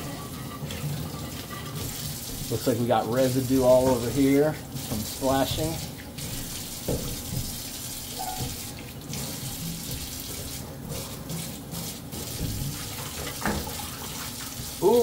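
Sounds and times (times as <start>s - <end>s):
faucet water splashing in metal sink: 0.0s - 15.0s.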